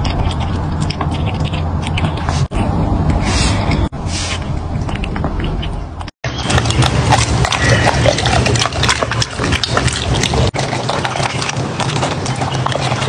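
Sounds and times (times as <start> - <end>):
puppy chewing and lip-smacking: 0.0 - 13.0.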